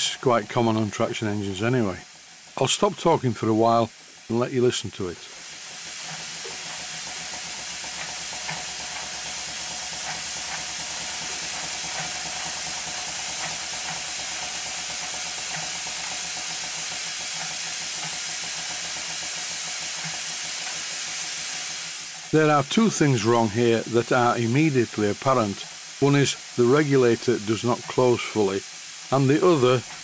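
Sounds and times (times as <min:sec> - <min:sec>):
hiss of escaping air: 0:00.0 - 0:30.0.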